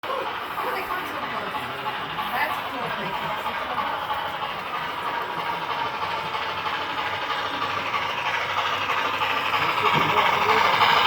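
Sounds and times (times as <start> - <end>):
model trains running: 0.0 - 11.0.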